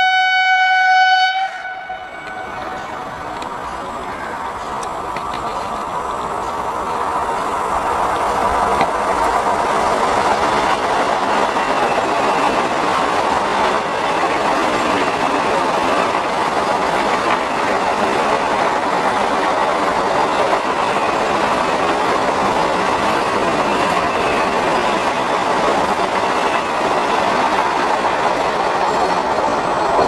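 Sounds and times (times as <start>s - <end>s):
train wheels running on rails: 2.0s - 30.0s.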